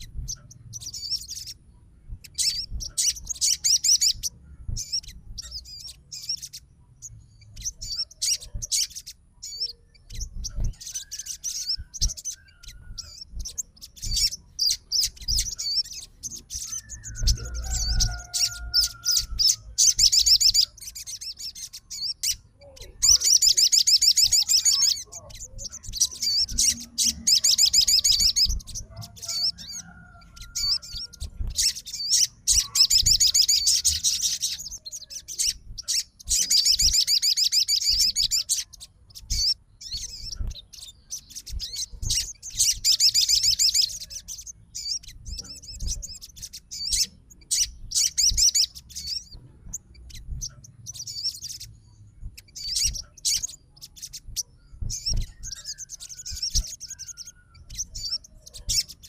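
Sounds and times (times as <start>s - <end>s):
bird trilling chatter: 0.0s - 1.6s, 2.2s - 59.0s
bird chirps: 0.0s - 59.0s.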